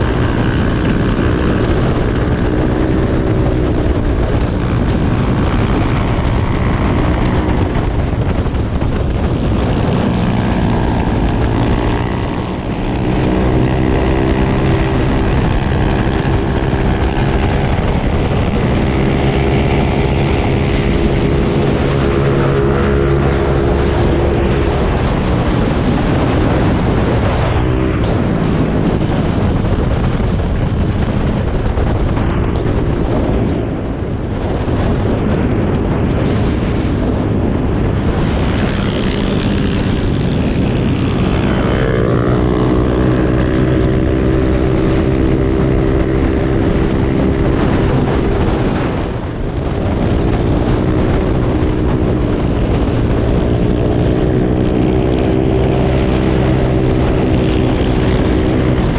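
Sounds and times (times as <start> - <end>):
motorcycle engine and exhaust: 0.0 - 58.9
wind rushing over microphone: 0.0 - 58.9.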